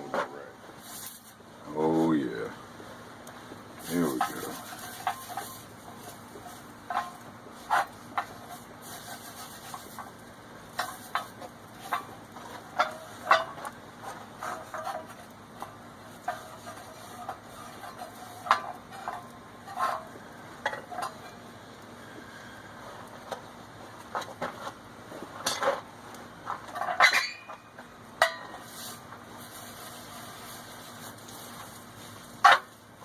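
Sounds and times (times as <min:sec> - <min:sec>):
scraping and rubbing on steel: 0:00.0 - 0:01.4, 0:03.8 - 0:21.4, 0:22.8 - 0:33.0.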